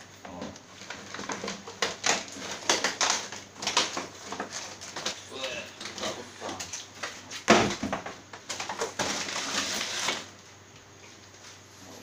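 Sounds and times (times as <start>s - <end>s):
cardboard rustling and scraping: 0.7s - 10.4s.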